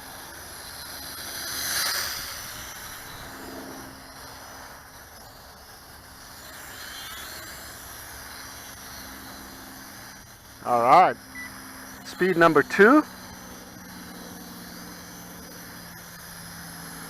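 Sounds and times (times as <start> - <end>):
quadcopter propellers buzzing: 0.0 - 17.0.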